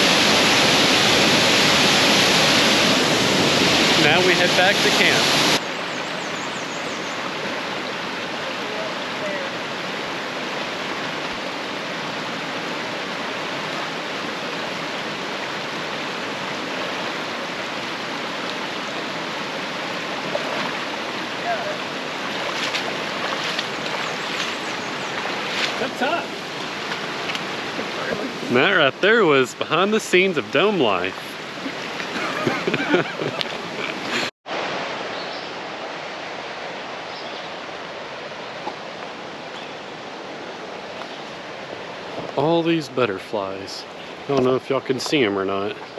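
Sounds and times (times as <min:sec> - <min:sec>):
water rushing: 0:00.0 - 0:45.9.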